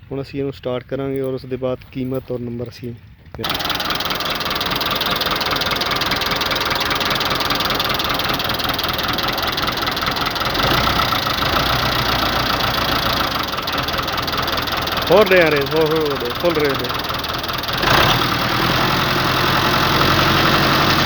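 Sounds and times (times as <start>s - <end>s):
diesel tractor engine idling: 3.4s - 21.0s.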